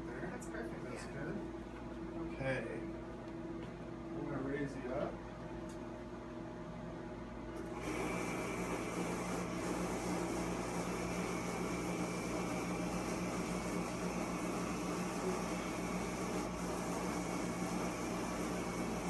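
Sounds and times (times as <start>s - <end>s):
motorized table motor hum and whine: 0.0s - 19.0s.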